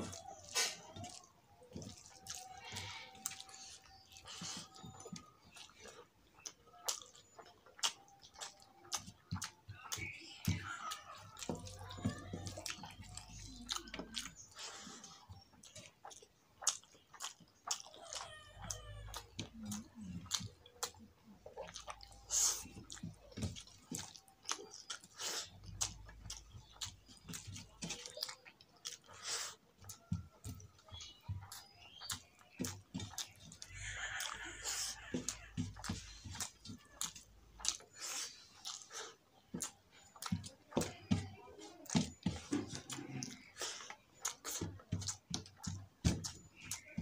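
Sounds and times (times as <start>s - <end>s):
open-mouthed chewing and lip smacking: 0.0s - 47.0s.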